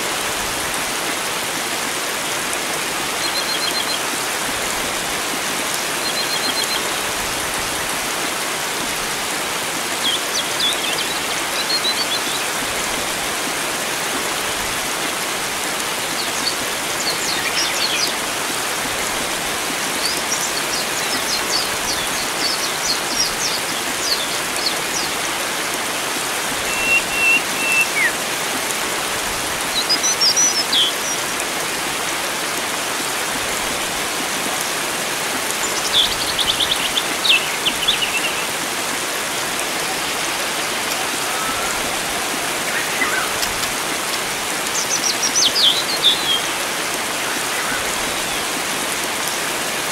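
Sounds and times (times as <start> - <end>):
flowing water rushing: 0.0 - 49.9.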